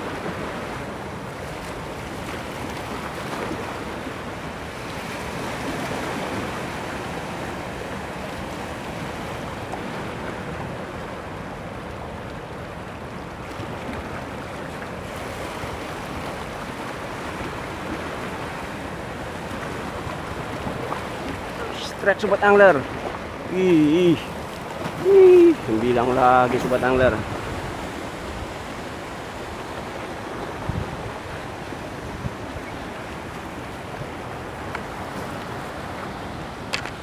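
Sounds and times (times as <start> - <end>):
sea surf washing over rocks: 0.0 - 37.0.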